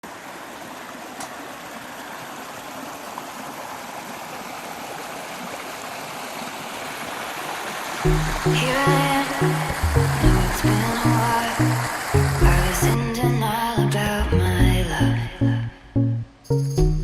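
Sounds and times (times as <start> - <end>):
stream water rushing: 0.0 - 14.3.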